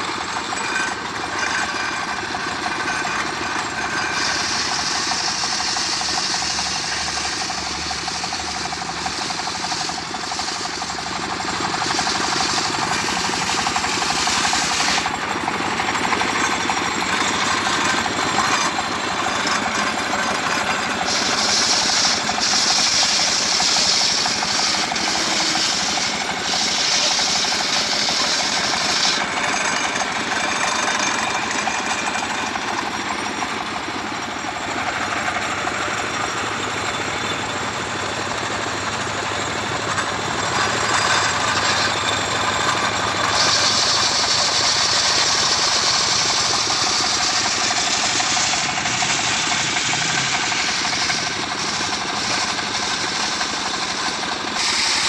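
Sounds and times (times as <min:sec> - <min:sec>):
circular saw blade cutting log: 0:00.0 - 0:55.0
sawmill engine chugging: 0:00.0 - 0:55.0.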